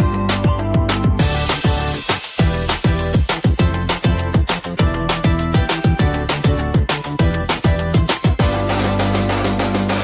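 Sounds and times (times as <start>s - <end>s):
upbeat electronic music: 0.0s - 10.0s.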